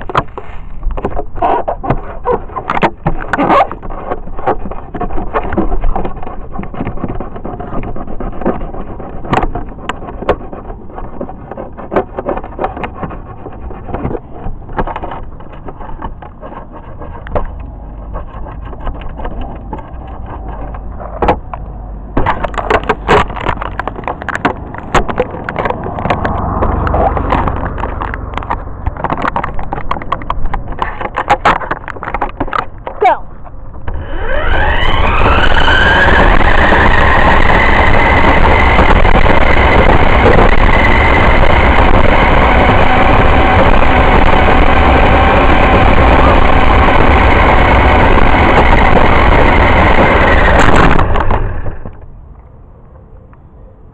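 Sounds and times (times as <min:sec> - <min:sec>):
rc car rolling over concrete: 0:00.0 - 0:33.2, 0:33.8 - 0:52.1
sharp clicks and knocks: 0:00.0 - 0:52.6.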